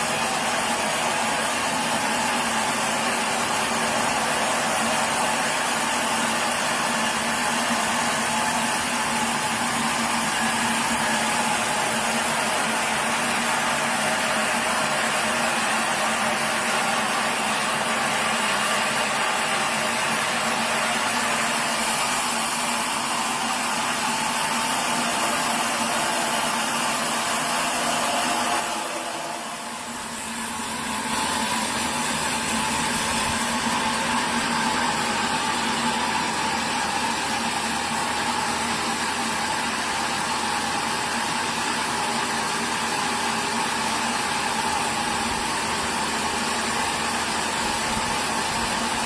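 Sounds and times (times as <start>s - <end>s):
sawmill machinery low hum: 0.0s - 49.0s
sawmill machinery whir: 0.0s - 49.0s.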